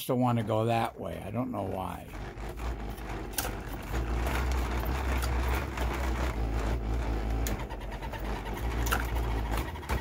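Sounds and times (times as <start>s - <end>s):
motor humming: 0.0s - 10.0s
mechanical rattle: 0.1s - 10.0s.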